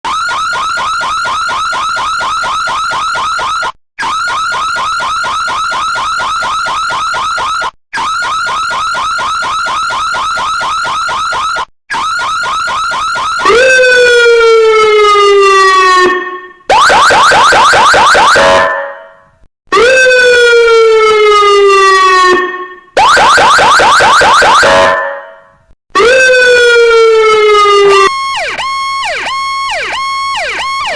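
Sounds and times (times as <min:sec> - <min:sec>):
siren wail: 0:00.0 - 0:30.9
siren yelp: 0:00.0 - 0:30.9.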